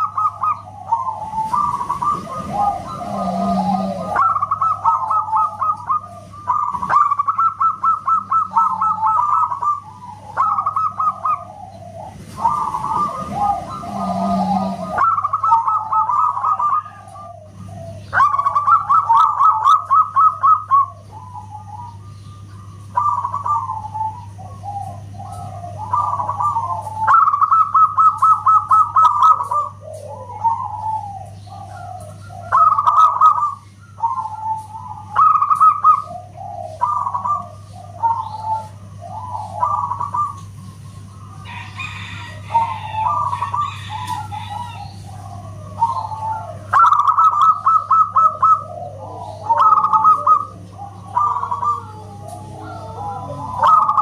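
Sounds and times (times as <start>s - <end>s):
doves cooing with trills: 0.0s - 54.0s
steady low hum: 0.0s - 54.0s.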